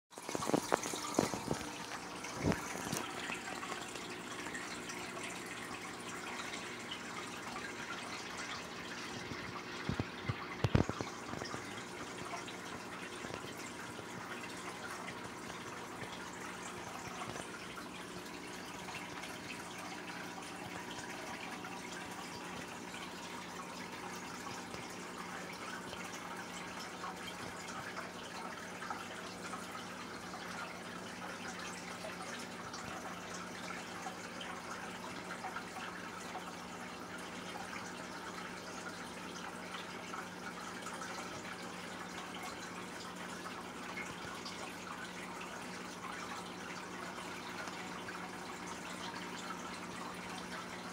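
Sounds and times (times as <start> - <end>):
water trickling and splashing: 0.1 - 50.9
constant hum: 0.2 - 50.9.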